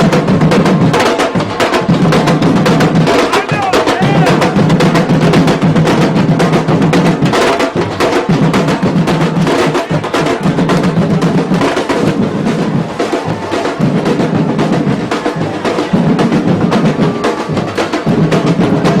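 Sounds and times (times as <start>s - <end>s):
deep drums: 0.0s - 19.0s
hand percussion: 0.0s - 19.0s
percussion ensemble drumming: 0.0s - 19.0s.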